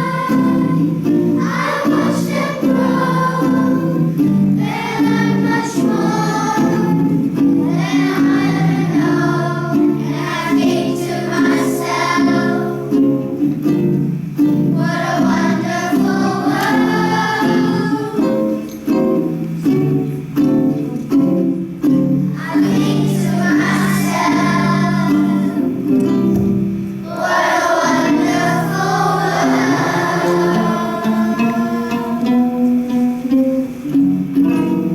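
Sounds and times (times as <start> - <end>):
children's choir singing: 0.0 - 34.9
plucked strings: 0.0 - 34.9.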